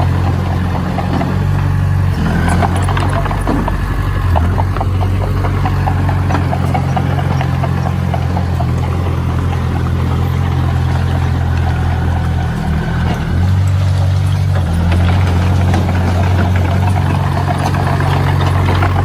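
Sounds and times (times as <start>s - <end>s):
heavy machine engine humming: 0.0s - 19.0s.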